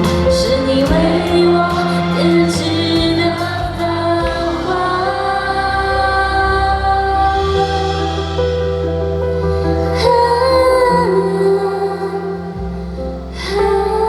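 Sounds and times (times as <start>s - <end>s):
woman singing: 0.0s - 8.4s, 9.4s - 14.0s
instrumental pop backing: 0.0s - 14.0s.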